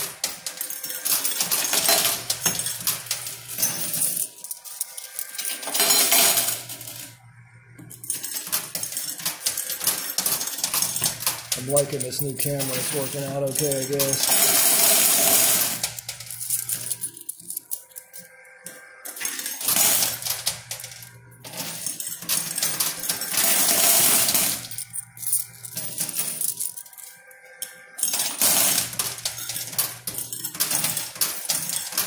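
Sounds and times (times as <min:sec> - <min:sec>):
coins clinking and clattering: 0:00.0 - 0:07.2, 0:07.8 - 0:32.0
faint machine hum: 0:00.0 - 0:32.0.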